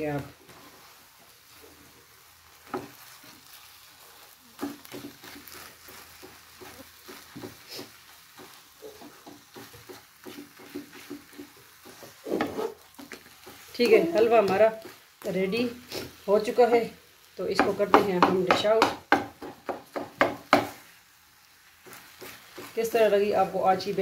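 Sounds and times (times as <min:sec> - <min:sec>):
wooden spatula scraping a pan: 0:00.0 - 0:16.9, 0:17.5 - 0:24.0
faint sizzle in a pan: 0:00.0 - 0:24.0.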